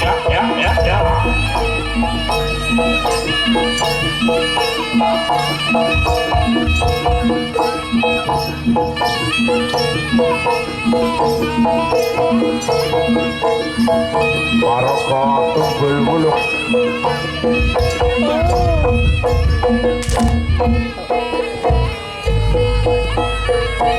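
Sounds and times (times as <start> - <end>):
drums: 0.0 - 23.9
metal percussion ensemble: 0.0 - 23.9.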